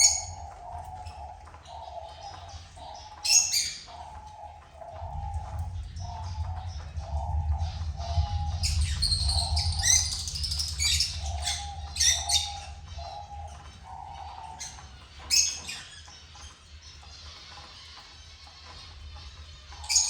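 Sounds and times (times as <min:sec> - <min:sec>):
finches chirping: 0:00.0 - 0:20.0
low steady hum: 0:00.0 - 0:20.0.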